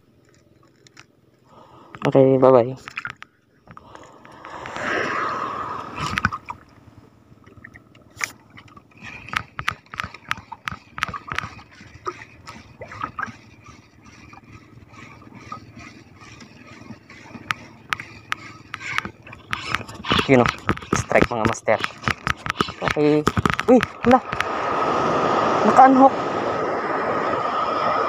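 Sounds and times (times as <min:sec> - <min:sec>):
water sloshing around boat: 0:00.0 - 0:28.0.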